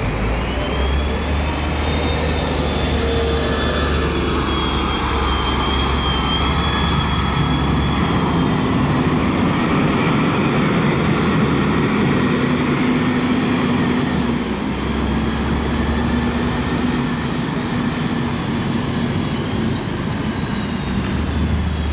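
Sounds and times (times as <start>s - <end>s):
bus diesel engine driving away: 0.0s - 21.9s.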